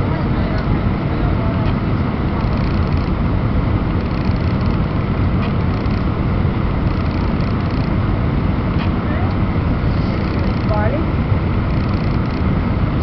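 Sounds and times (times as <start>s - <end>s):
airliner engine drone: 0.0s - 13.0s
rushing air: 0.0s - 13.0s.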